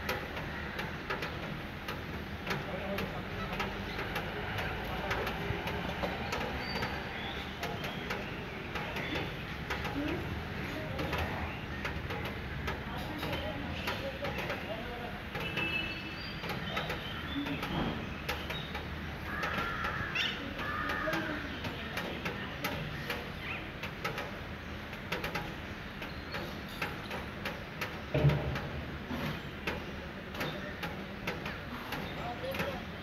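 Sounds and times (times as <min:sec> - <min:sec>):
birds calling: 0:00.0 - 0:33.0
city background: 0:00.0 - 0:33.0.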